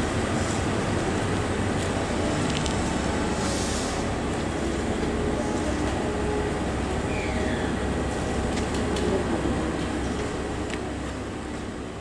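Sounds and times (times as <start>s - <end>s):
diesel railcar engines running: 0.0s - 12.0s.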